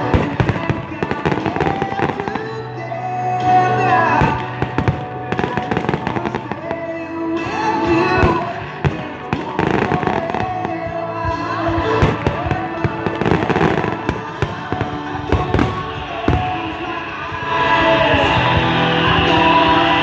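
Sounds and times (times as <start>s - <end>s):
fireworks bangs and crackle: 0.0s - 2.6s, 4.2s - 20.0s
loud rock music: 0.0s - 20.0s.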